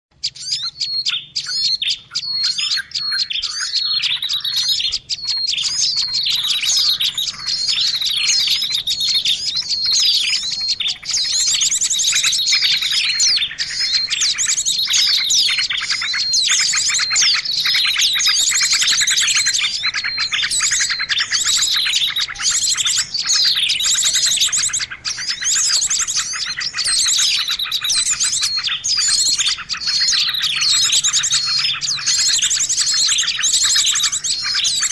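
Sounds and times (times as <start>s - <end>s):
small birds chirping and trilling: 0.1s - 34.9s.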